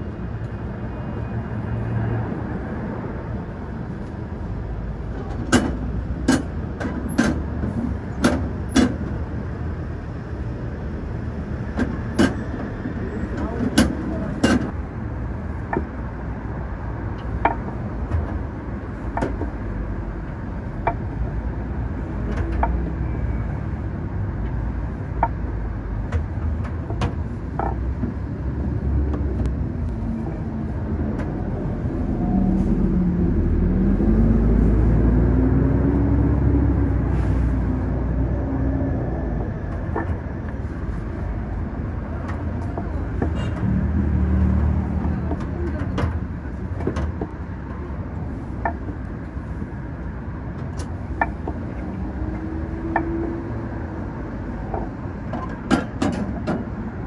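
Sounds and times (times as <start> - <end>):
heavy vehicle engine: 0.0 - 57.0
low traffic rumble: 0.0 - 57.0.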